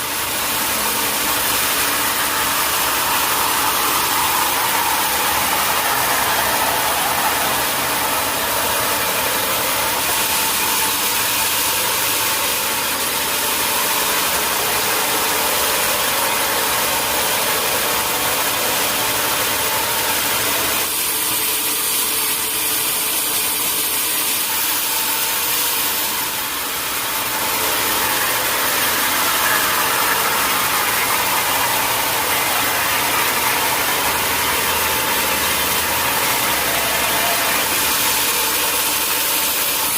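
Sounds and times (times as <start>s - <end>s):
sawmill machinery drone: 0.0s - 39.9s
strong steady hiss: 0.0s - 39.9s.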